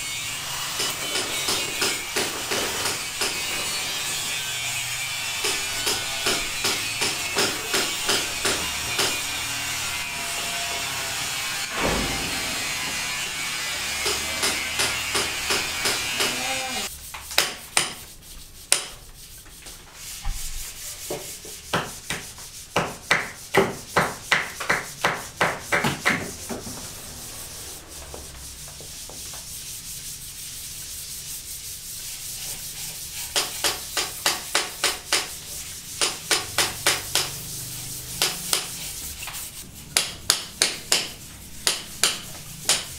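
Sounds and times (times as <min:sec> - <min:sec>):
hand scraping corrugated steel: 0:00.0 - 0:42.9.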